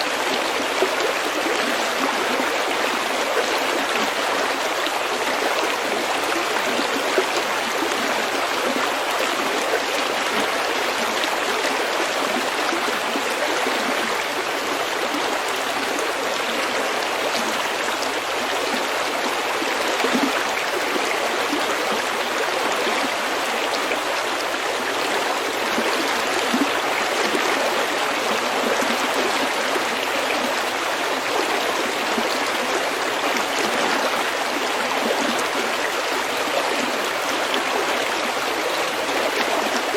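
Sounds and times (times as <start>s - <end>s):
stream babbling over pebbles: 0.0s - 39.9s.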